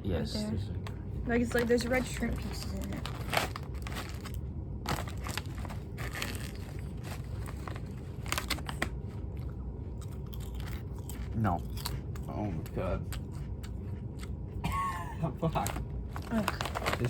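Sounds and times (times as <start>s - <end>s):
crunching and chewing rice cakes: 2.5s - 17.0s.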